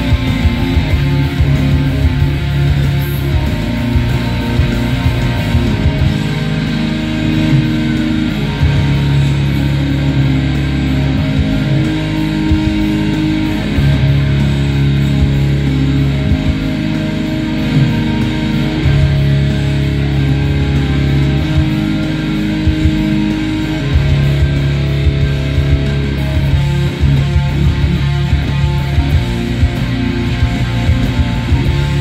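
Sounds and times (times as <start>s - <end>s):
electric guitar heavy metal riff: 0.0s - 32.0s.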